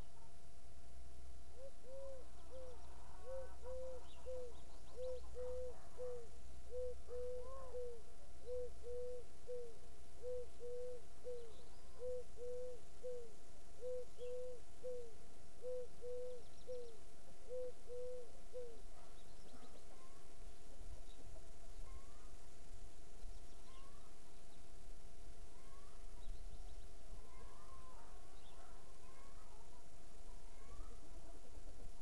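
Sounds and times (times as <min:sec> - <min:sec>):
faint high bird chirps: 0:01.6 - 0:22.4, 0:23.2 - 0:24.6, 0:25.5 - 0:31.3.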